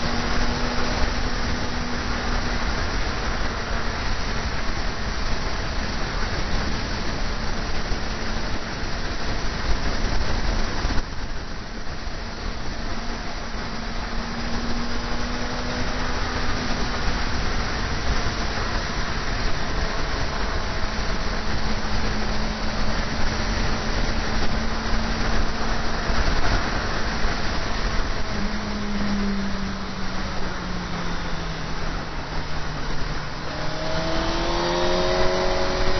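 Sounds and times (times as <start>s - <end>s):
motorcycle engine running: 0.0s - 35.9s
wind and road rush: 0.0s - 35.9s.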